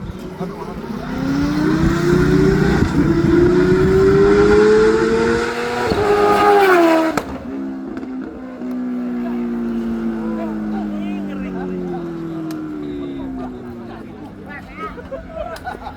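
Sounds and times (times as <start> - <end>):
motorcycle engine revving past: 0.3 - 13.4.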